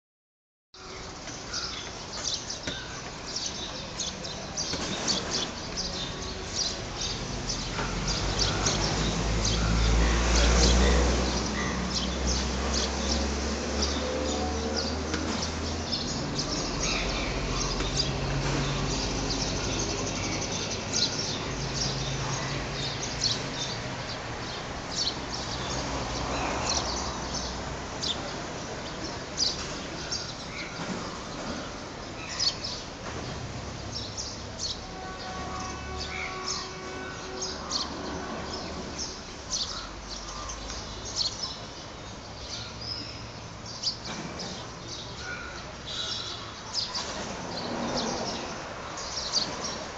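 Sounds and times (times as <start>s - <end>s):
small birds chirping: 0.8s - 49.9s.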